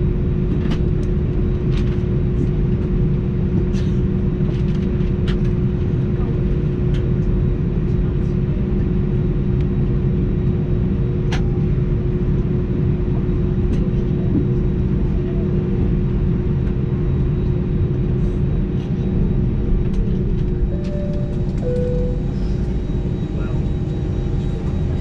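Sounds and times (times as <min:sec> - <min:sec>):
airplane cabin rumble and hum: 0:00.0 - 0:25.0.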